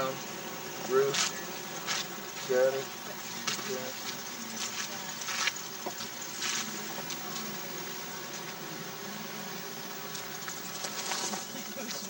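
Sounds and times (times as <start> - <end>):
faint buzzing hum: 0.0 - 12.0.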